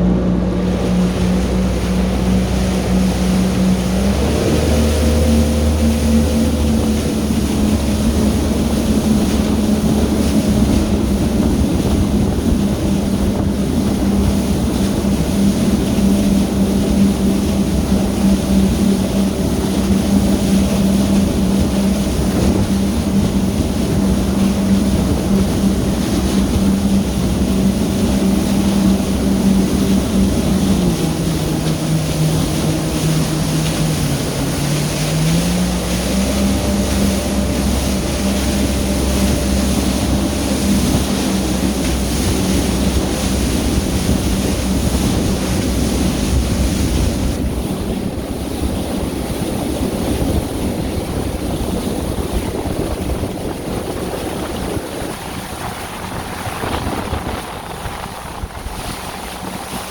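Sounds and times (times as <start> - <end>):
personal watercraft engine: 0.0 - 59.9
wind noise: 0.0 - 59.9.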